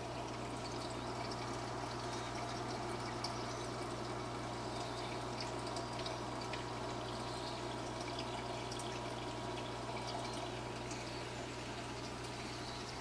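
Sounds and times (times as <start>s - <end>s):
water drips and splashes: 0.0s - 13.0s
water trickling: 0.0s - 13.0s.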